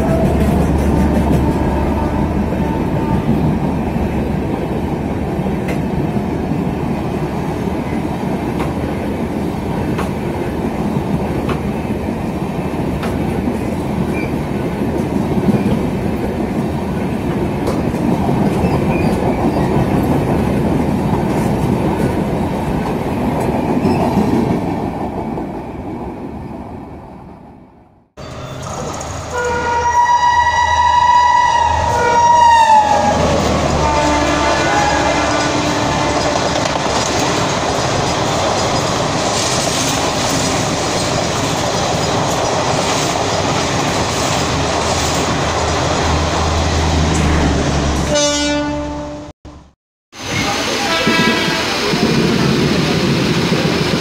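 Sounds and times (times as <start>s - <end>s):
train wheels rumbling: 0.0s - 48.6s, 49.5s - 54.0s.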